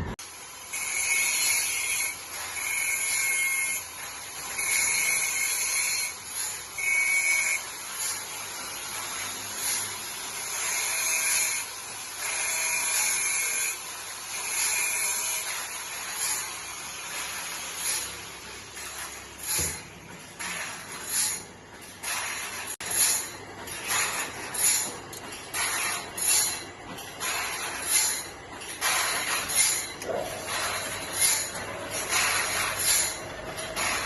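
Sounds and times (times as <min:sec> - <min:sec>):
hand tool scraping saw blade: 0:00.7 - 0:19.8, 0:20.4 - 0:26.6, 0:27.2 - 0:34.0.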